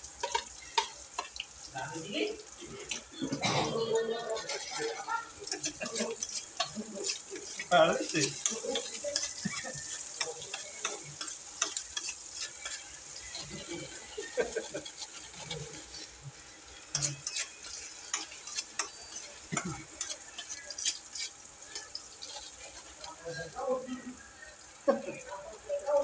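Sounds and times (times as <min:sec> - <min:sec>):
food sizzling in hot oil: 0:00.0 - 0:26.0
utensil scraping a pot: 0:02.6 - 0:24.1.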